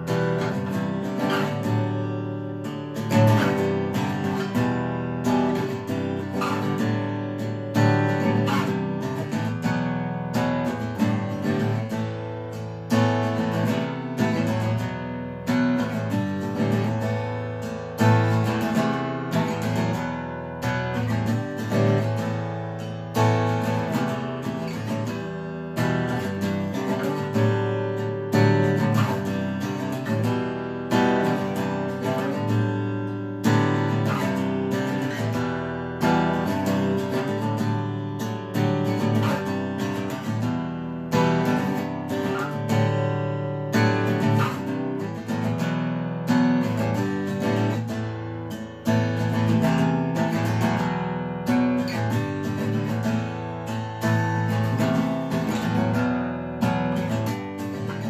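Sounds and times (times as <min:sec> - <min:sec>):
acoustic guitar chords: 0:00.0 - 0:58.0.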